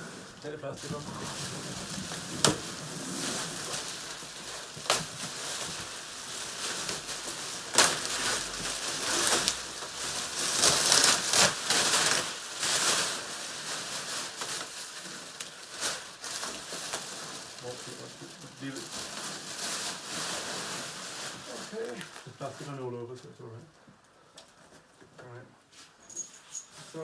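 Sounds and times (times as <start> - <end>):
plastic wrapping crinkling: 0.0 - 23.1.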